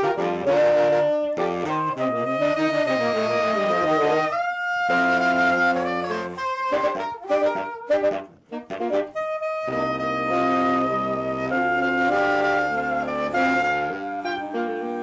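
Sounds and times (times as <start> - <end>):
saxophone quartet playing: 0.0 - 15.0.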